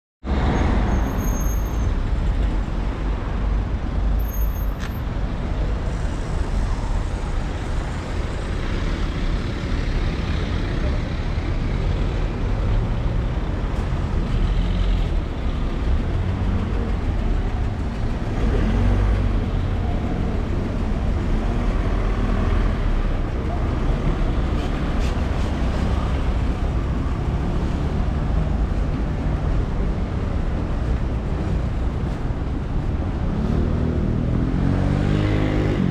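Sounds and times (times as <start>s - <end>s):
deep traffic rumble: 0.2s - 35.9s
cars and scooters passing: 4.8s - 35.9s.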